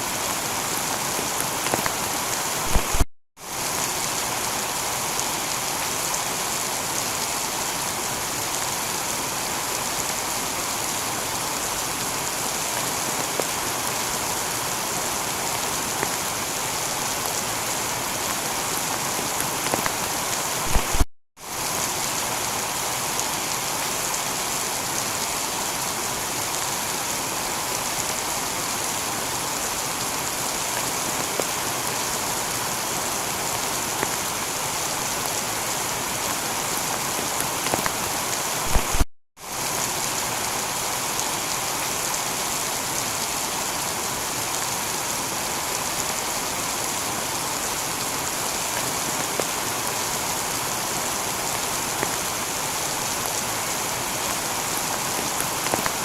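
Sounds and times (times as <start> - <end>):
heavy rain on a tiled roof: 0.0 - 56.0.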